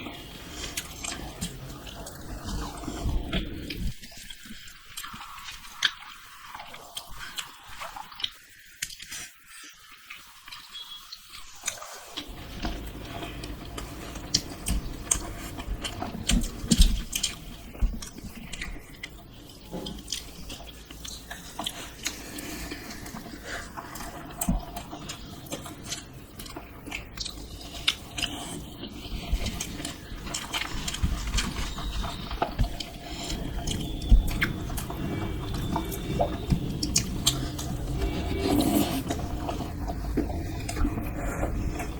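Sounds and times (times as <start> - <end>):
chewing and wet mouth noises: 0.0 - 41.9.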